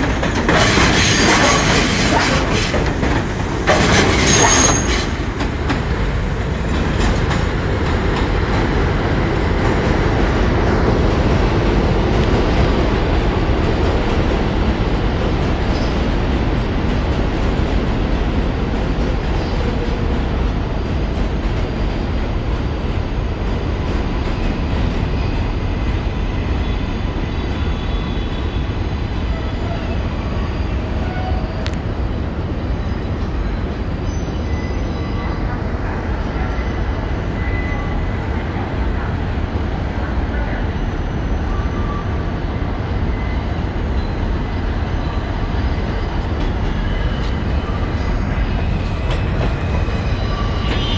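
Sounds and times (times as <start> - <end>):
subway car rumbling on track: 0.0 - 50.9.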